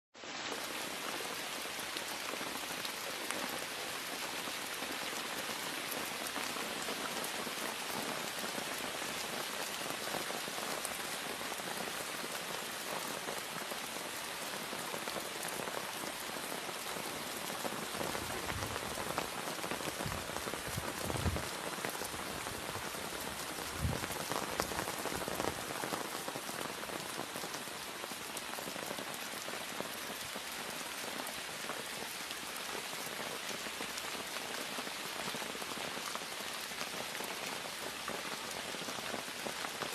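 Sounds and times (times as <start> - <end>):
steady rain: 0.2 - 39.9.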